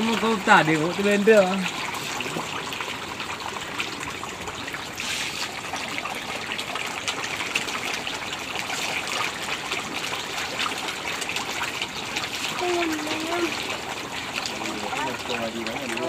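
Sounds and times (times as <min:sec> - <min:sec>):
fish splashing at water surface: 0:00.0 - 0:16.0.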